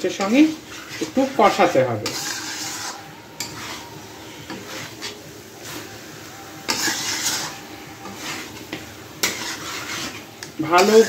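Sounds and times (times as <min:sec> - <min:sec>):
spoon scraping a steel pan: 0:00.0 - 0:05.8, 0:06.6 - 0:11.0
food sizzling in oil: 0:00.0 - 0:11.0.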